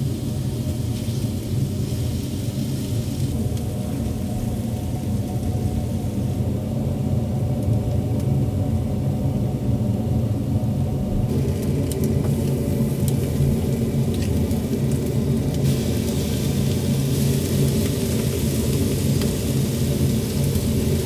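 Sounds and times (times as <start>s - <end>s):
charcoal grill crackling: 0.0s - 7.6s, 11.1s - 21.0s
extractor fan rumble: 0.0s - 21.0s.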